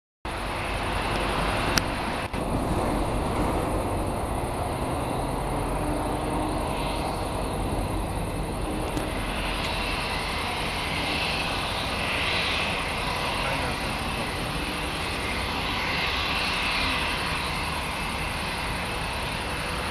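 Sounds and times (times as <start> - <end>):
jet engines rumbling and whining: 0.3 - 19.9.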